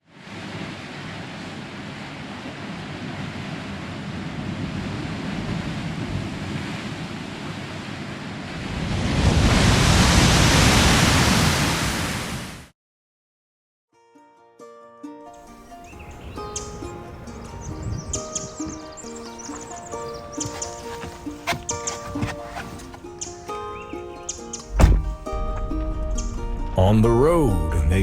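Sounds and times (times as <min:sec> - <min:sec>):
ocean waves rushing: 0:00.0 - 0:12.7, 0:15.5 - 0:28.0
wind: 0:00.0 - 0:12.7, 0:15.4 - 0:28.0.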